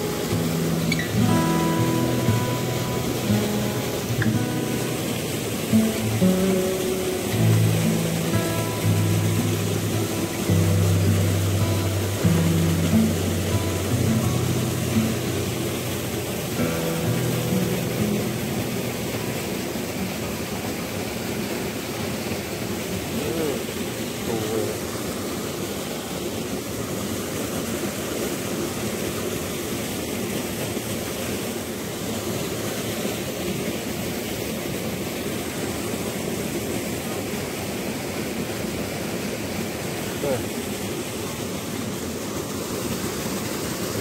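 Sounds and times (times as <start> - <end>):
stream running over stones: 0.0 - 44.0.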